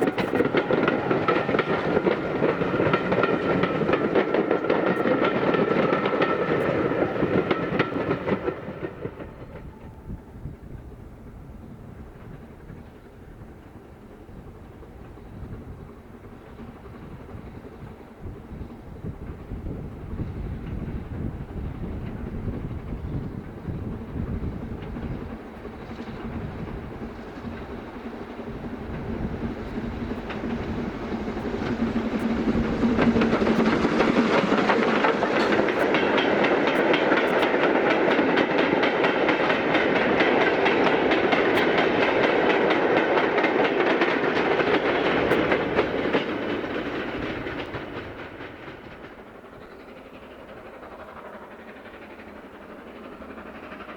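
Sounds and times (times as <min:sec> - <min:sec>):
train low rumble: 0:00.0 - 0:53.9
train wheels clickety-clack: 0:00.0 - 0:53.9.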